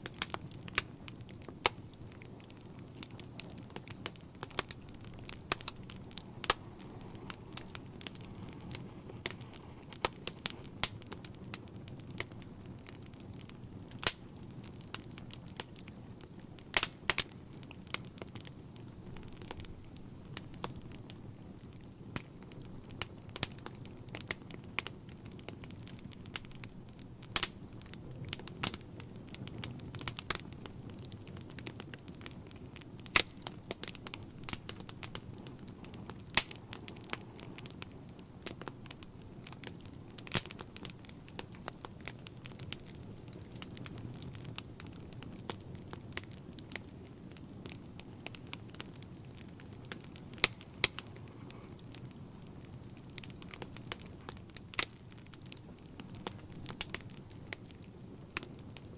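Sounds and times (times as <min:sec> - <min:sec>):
low rush of flames: 0:00.0 - 0:58.9
wood fire crackling: 0:00.0 - 0:58.9.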